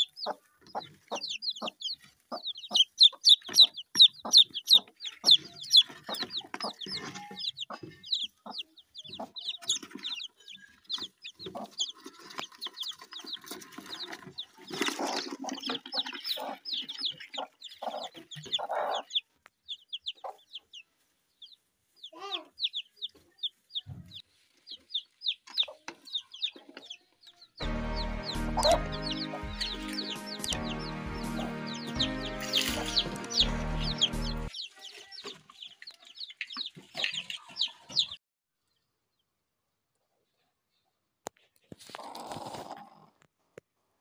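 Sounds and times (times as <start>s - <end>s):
birds chirping: 0.0s - 38.8s.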